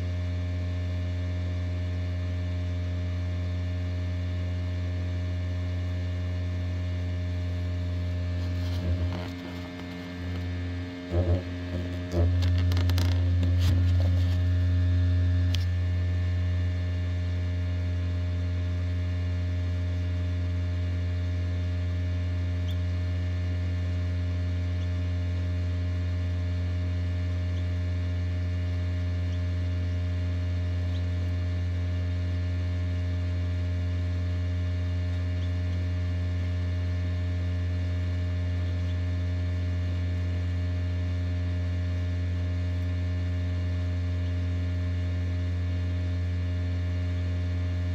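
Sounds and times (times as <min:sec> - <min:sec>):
incubator electrical hum: 0:00.0 - 0:47.9.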